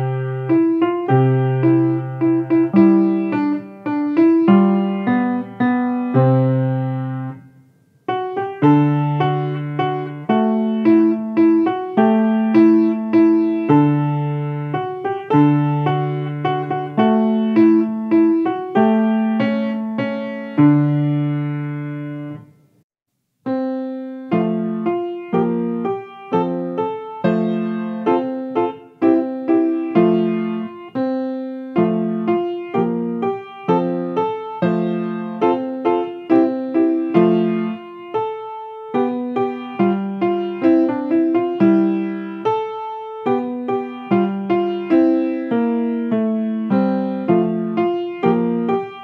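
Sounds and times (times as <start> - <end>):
grand piano playing: 0.0 - 7.5, 8.1 - 22.5, 23.5 - 49.0.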